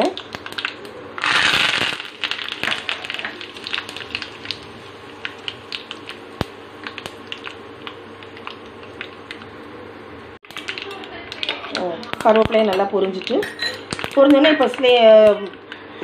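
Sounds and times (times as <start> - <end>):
leaves sizzling in hot oil: 0.0 - 9.4, 10.4 - 15.5.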